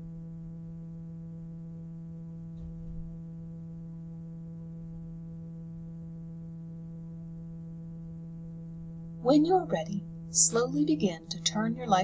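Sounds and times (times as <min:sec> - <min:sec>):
low humming drone tone: 0:00.0 - 0:12.0.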